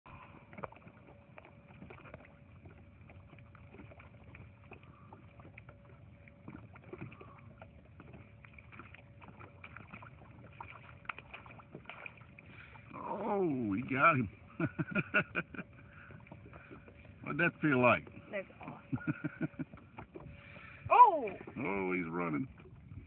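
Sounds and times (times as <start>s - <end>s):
thin steady hum: 0.1s - 23.0s
water lapping: 0.1s - 23.0s.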